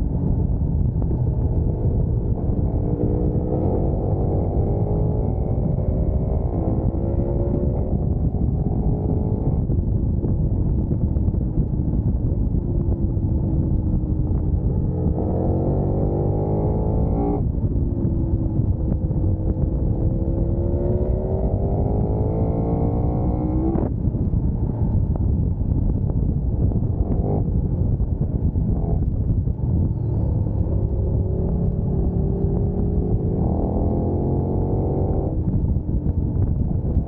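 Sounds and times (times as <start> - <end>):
motorcycle engine accelerating: 0.0 - 37.0
wind rush: 0.0 - 37.0.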